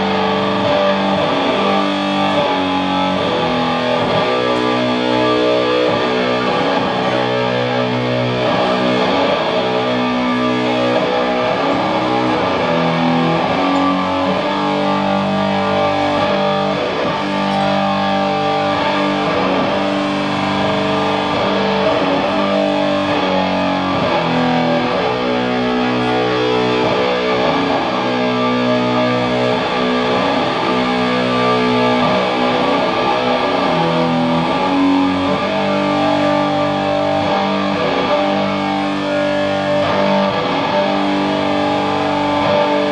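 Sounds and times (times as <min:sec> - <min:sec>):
distorted doom metal guitars and bass: 0:00.0 - 0:42.9.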